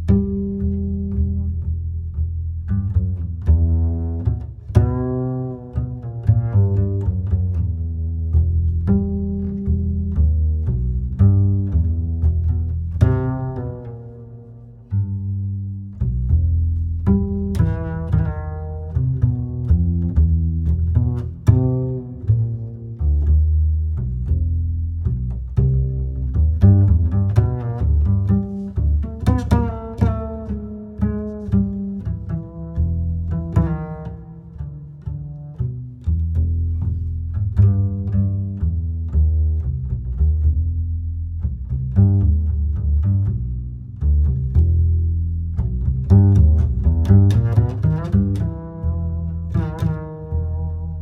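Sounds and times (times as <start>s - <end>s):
bass line: 0.0s - 51.0s
plucked melody: 0.0s - 51.0s.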